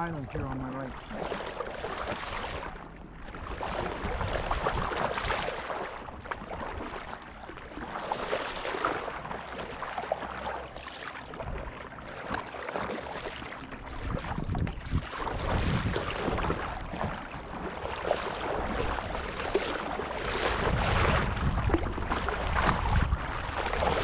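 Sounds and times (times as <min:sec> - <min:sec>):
wind rumble on microphone: 0:00.0 - 0:10.4, 0:11.2 - 0:24.0
water splashing around kayak: 0:00.0 - 0:24.0.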